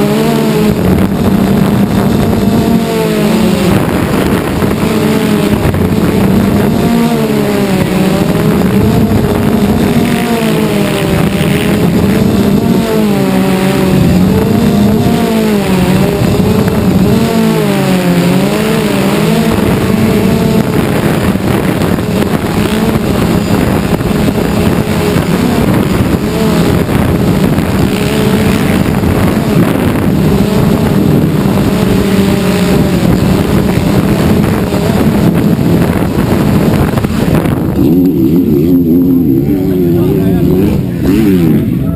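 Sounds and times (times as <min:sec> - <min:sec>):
drone propellers humming: 0:00.0 - 0:41.9.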